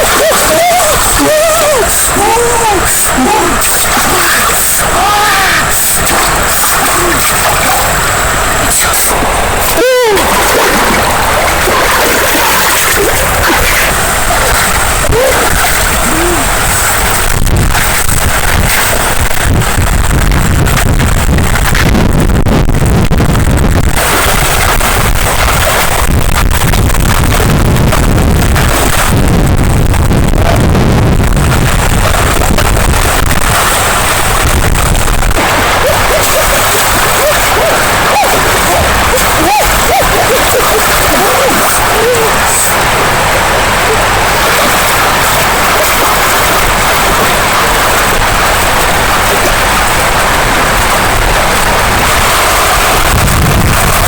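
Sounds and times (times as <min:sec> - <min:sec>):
river water rushing: 0:00.0 - 0:21.8, 0:23.8 - 0:54.0
wind rumbling on microphone: 0:00.0 - 0:54.0.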